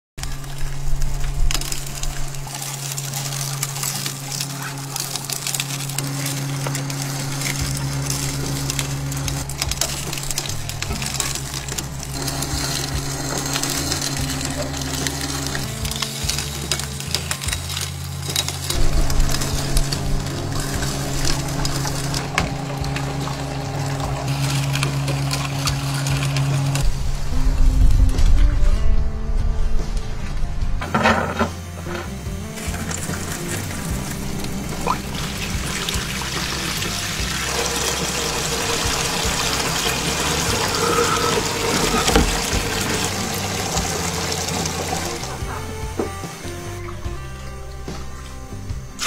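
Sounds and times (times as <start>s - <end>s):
juicer rollers crushing cane: 0.2s - 29.4s, 30.0s - 49.0s
low hum: 0.2s - 49.0s.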